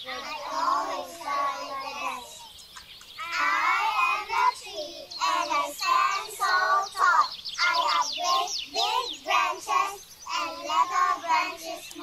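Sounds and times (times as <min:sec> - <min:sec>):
children singing in unison: 0:00.0 - 0:02.5, 0:03.2 - 0:12.0.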